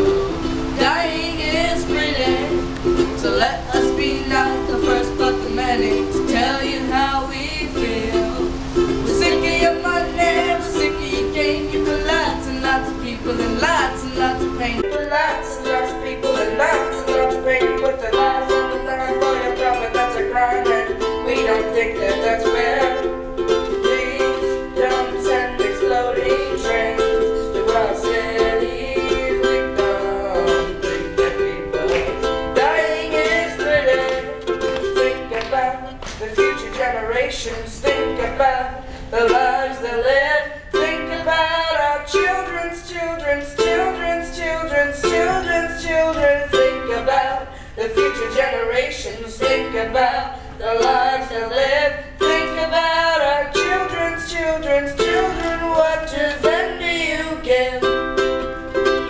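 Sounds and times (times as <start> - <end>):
ukulele strumming: 0.0 - 59.0.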